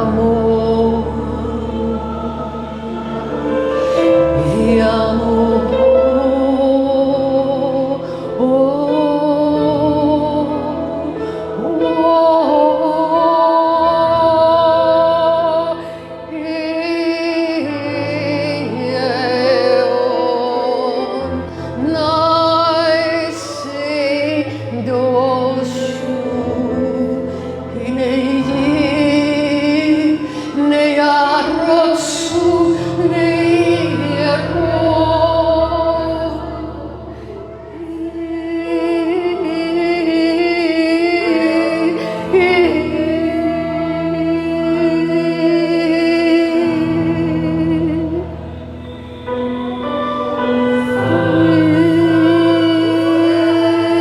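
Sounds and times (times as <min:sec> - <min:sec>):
woman singing: 0:00.0 - 0:54.0.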